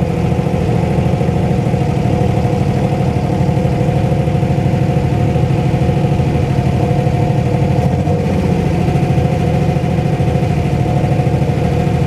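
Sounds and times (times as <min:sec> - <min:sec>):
rapid pulsing exhaust: 0:00.0 - 0:12.0
truck engine running at low revs: 0:00.0 - 0:12.0.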